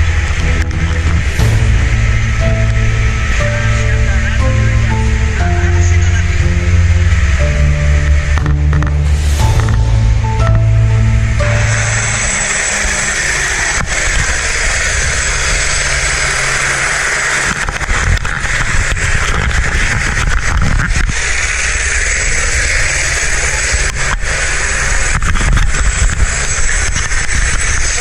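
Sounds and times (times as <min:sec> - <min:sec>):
helicopter noise: 0:00.0 - 0:28.0.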